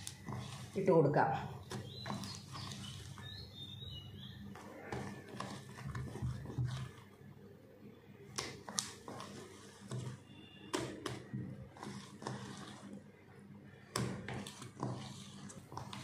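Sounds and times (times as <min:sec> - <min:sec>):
cake batter squelching: 0:00.0 - 0:07.2, 0:08.2 - 0:16.0.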